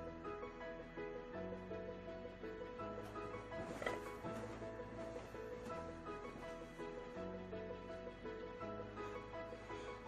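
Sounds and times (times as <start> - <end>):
soft melodic background music: 0.0 - 10.0.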